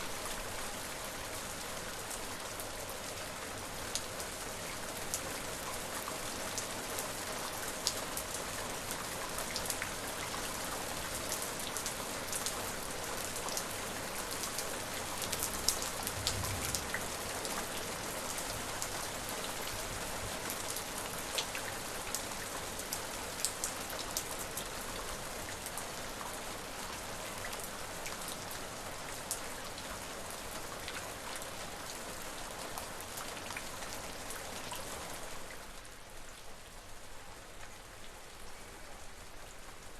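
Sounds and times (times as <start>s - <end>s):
steady rain falling: 0.0s - 39.9s
raindrops ticking on a surface: 2.0s - 36.8s.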